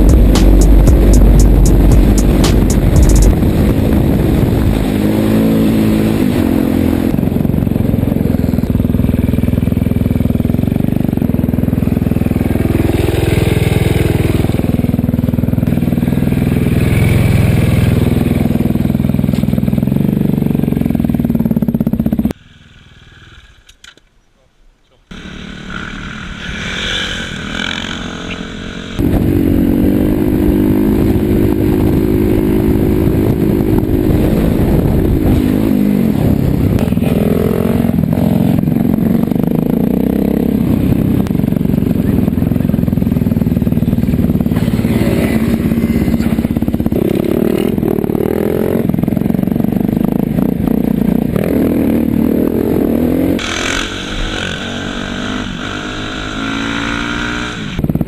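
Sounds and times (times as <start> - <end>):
motorcycle engine revving: 0.0 - 23.9, 25.1 - 58.0.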